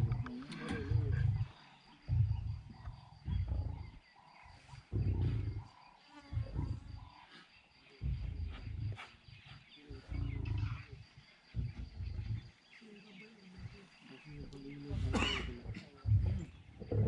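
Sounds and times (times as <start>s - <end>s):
lion roaring: 0.0s - 12.6s, 13.5s - 17.0s.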